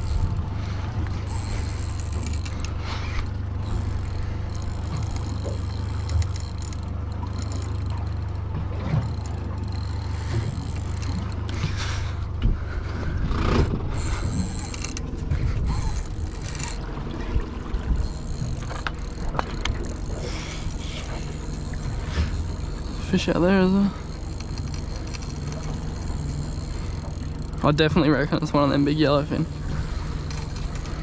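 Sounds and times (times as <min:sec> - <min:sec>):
fishing reel ratcheting: 0:00.0 - 0:12.2, 0:13.4 - 0:16.9, 0:17.9 - 0:31.0
low hum: 0:00.0 - 0:31.0.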